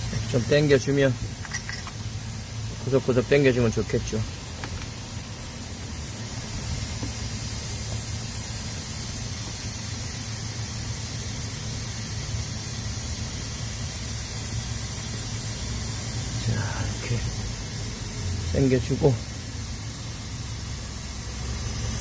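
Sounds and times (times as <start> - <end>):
air suction gun hissing: 0.0 - 22.0.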